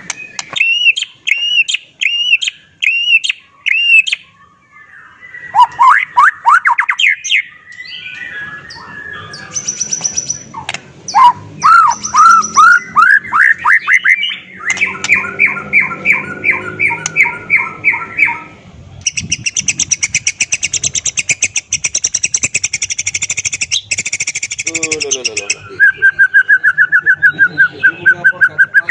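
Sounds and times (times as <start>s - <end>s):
songbird singing whistled phrases: 0.0s - 28.9s.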